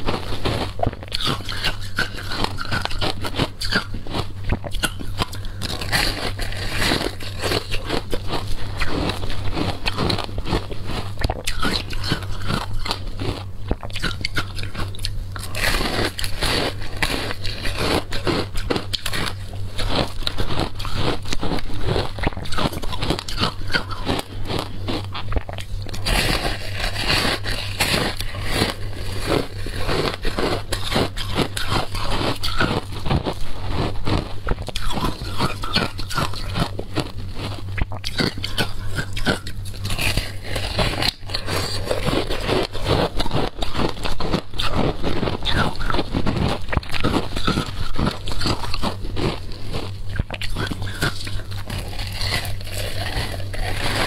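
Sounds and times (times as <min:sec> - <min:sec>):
crunching shaved ice: 0:00.0 - 0:54.0
steady low hum: 0:00.0 - 0:54.0.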